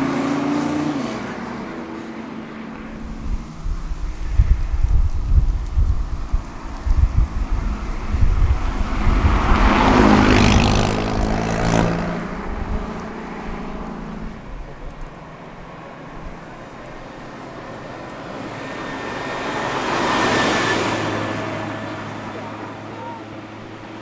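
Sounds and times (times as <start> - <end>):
car passing by: 0.0 - 24.0.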